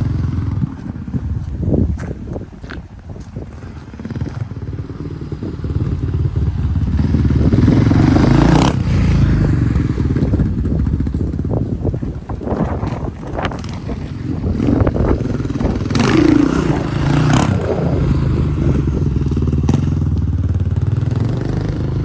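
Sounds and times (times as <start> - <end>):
dirt bike engine revving: 3.5 - 22.0.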